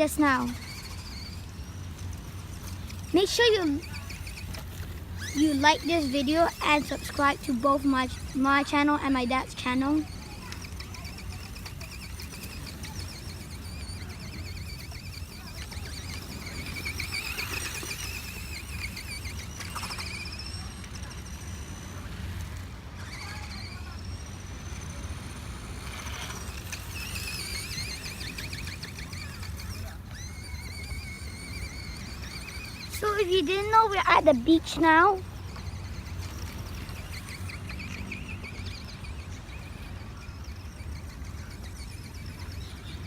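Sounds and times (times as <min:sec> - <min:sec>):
small electric motor whining: 0:00.0 - 0:43.0.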